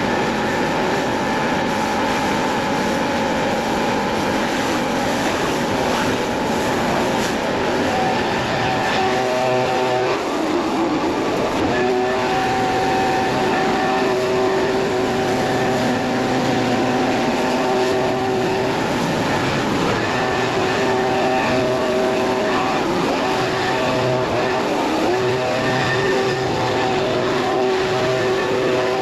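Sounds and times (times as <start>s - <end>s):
pressure washer engine drone: 0.0s - 29.0s
water spray hissing on concrete: 0.0s - 29.0s.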